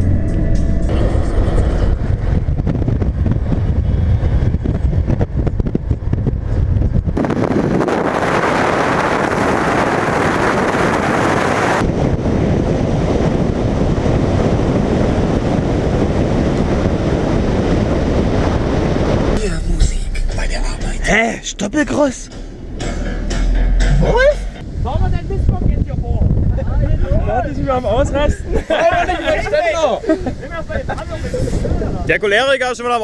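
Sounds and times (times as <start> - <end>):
road noise: 0.0 - 28.2
wind buffeting microphone: 0.0 - 33.0.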